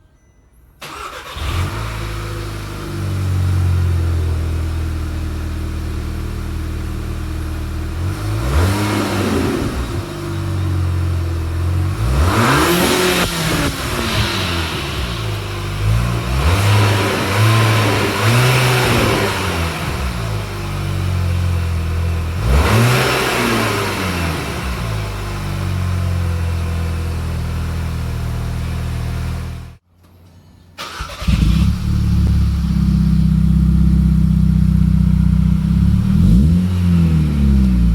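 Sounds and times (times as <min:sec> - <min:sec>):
car engine idling: 0:00.8 - 0:12.2, 0:12.9 - 0:22.6, 0:23.3 - 0:29.8, 0:30.8 - 0:37.9
car engine revving: 0:00.8 - 0:29.8, 0:30.8 - 0:37.9.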